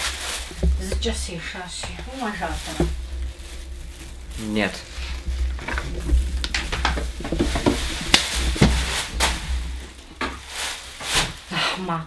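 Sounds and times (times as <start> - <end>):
food sizzling in a frying pan: 0.0 - 11.5.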